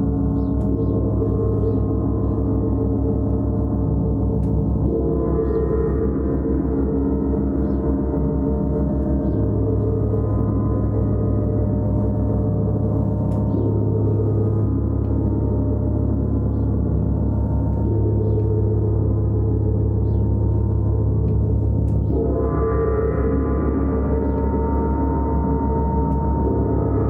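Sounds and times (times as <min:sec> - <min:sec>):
gong drone: 0:00.0 - 0:27.0.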